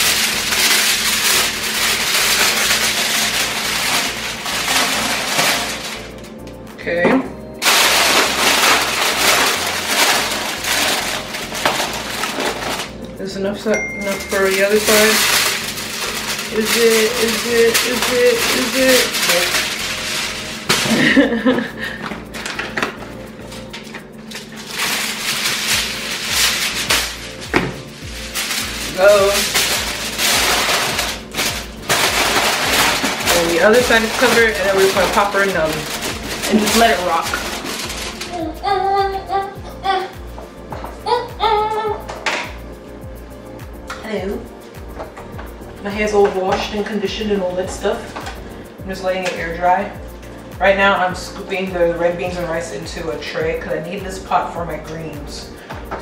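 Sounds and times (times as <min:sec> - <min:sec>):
aluminium foil crinkling: 0:00.0 - 0:06.7, 0:07.6 - 0:39.4, 0:43.4 - 0:56.0.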